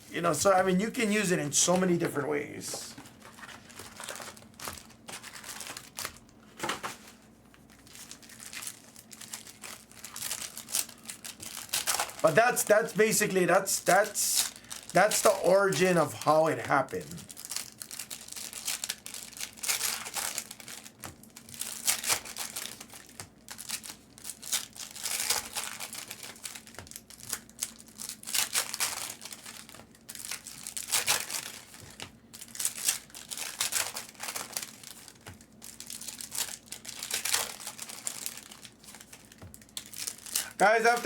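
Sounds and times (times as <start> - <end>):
plastic wrappers crinkling and tearing: 0.4 - 41.0.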